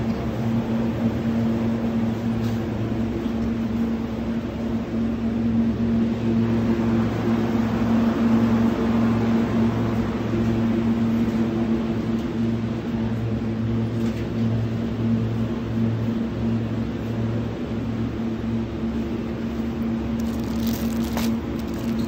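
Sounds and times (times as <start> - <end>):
low droning hum: 0.0 - 22.0.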